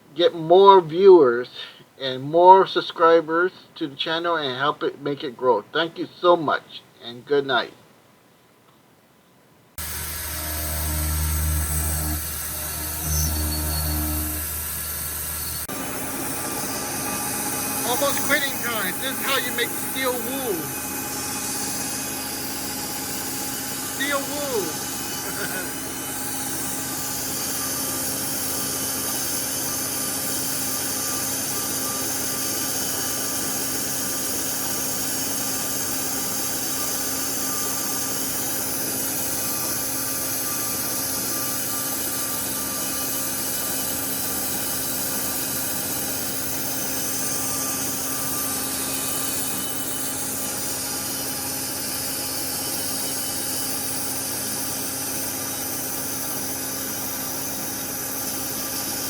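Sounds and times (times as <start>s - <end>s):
metal lathe cutting steel: 9.8s - 59.0s.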